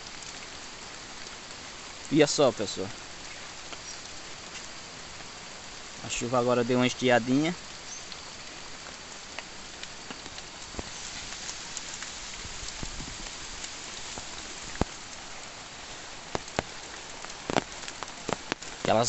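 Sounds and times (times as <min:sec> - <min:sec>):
light rain on foliage: 0:00.0 - 0:19.0.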